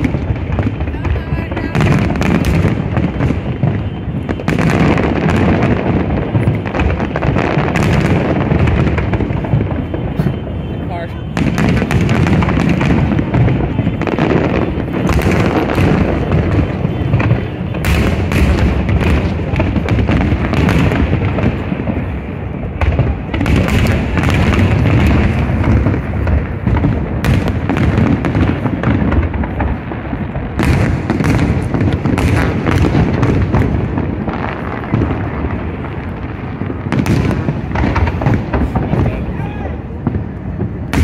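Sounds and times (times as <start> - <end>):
fireworks booming: 0.0 - 41.0
fireworks cracking and crackling: 0.0 - 41.0.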